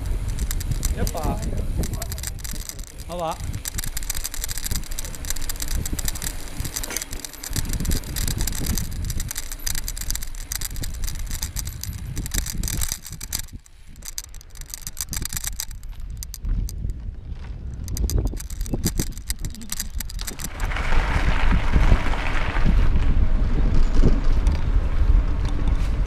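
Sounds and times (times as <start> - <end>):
tyres rolling over stone paving: 0.0 - 16.8, 17.8 - 23.0
bike rattling and knocking: 0.0 - 26.0.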